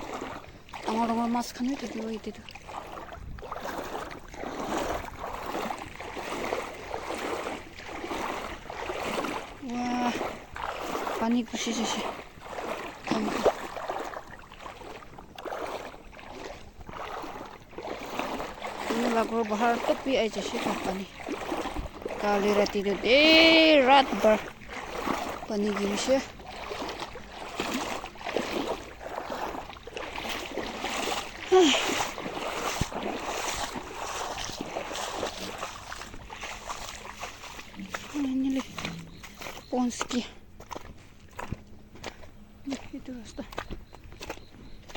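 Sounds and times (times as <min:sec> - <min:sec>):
floodwater rushing: 0:00.0 - 0:43.3
water sloshing and splashing: 0:00.0 - 0:44.9.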